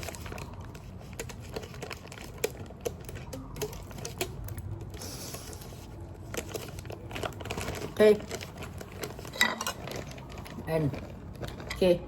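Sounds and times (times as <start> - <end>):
utensils and packaging clicking: 0.0 - 12.0.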